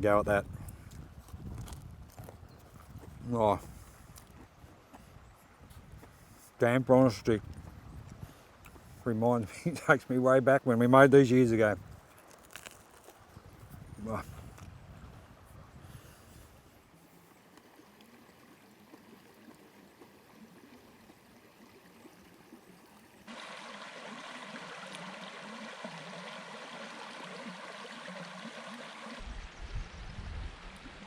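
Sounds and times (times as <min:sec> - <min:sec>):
stream running over rocks: 0:00.0 - 0:15.6, 0:16.4 - 0:31.0.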